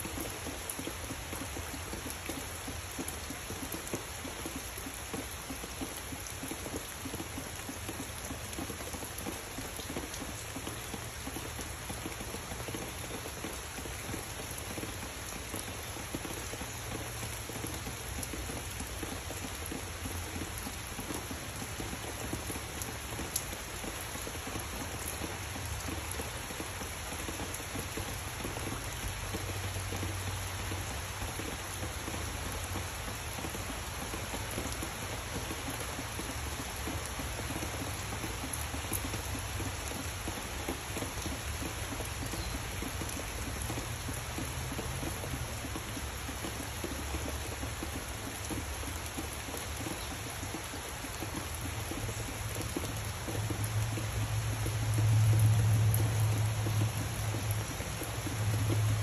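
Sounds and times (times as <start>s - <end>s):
rain falling on trees: 0.0s - 59.0s.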